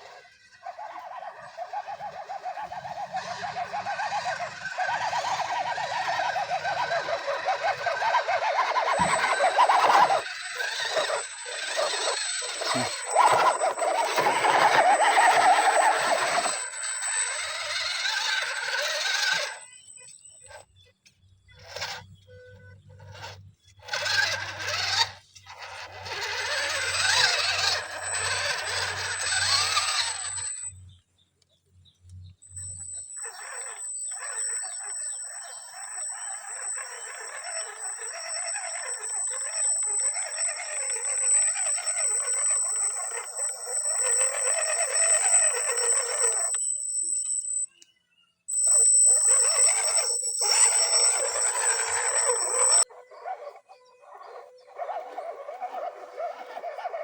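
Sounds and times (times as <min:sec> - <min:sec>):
electric toy car motor whining: 0:00.0 - 0:20.8, 0:21.4 - 0:31.0, 0:31.9 - 0:47.7, 0:48.5 - 0:57.0.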